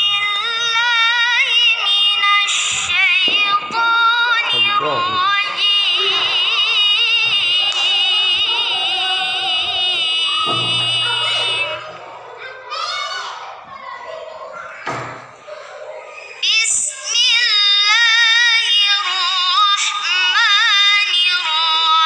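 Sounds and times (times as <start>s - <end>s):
boy reciting melodically: 0.0s - 14.8s, 15.5s - 22.0s.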